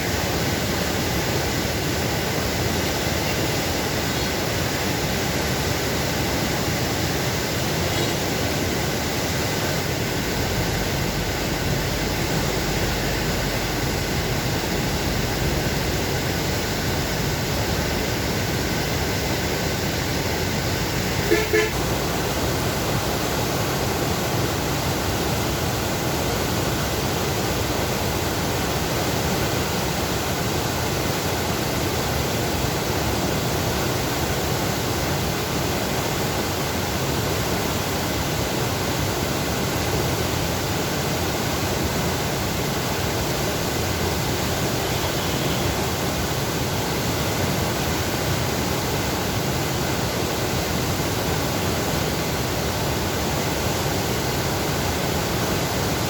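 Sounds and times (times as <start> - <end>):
water rushing through sluice gate: 0.0 - 56.0.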